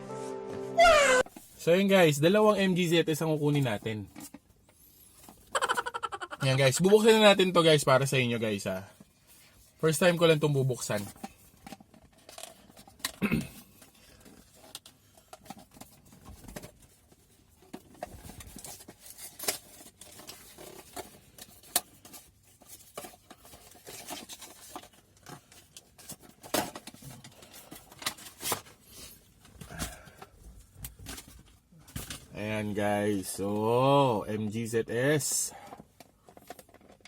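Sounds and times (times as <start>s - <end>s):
cardboard and plastic packaging rustling: 1.2s - 33.8s, 35.5s - 37.0s.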